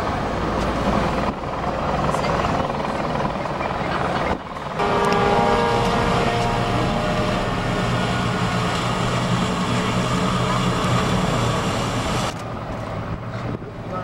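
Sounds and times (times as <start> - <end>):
wide rushing noise: 0.0 - 13.3
low engine drone: 0.0 - 14.0.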